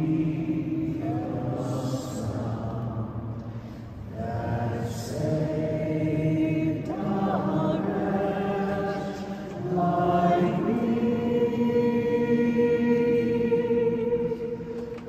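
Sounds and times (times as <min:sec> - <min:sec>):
choral chant singing: 0:00.0 - 0:15.0.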